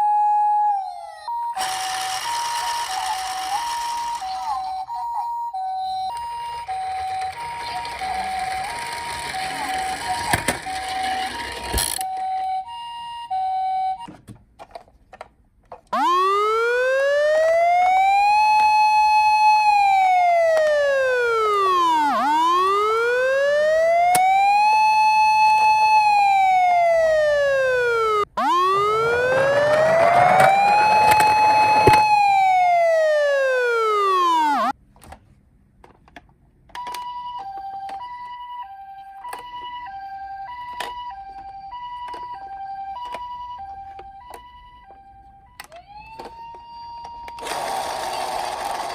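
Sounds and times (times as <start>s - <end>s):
toy siren wailing: 0.0s - 14.1s, 16.0s - 34.8s, 36.9s - 48.3s
two-tone hi-lo siren: 0.0s - 14.1s, 16.0s - 34.8s, 37.4s - 47.5s.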